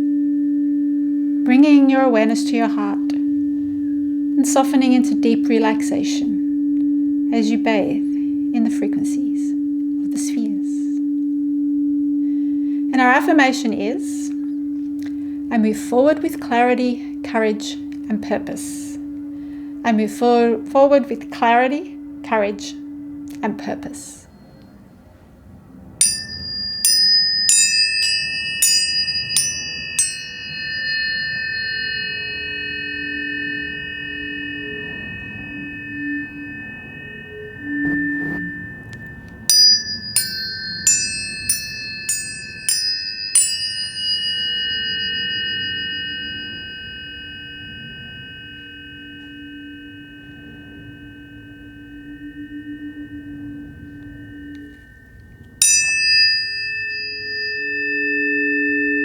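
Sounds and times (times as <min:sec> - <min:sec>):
low steady tone: 0:00.0 - 0:59.0
tuning forks ringing: 0:00.0 - 0:59.0.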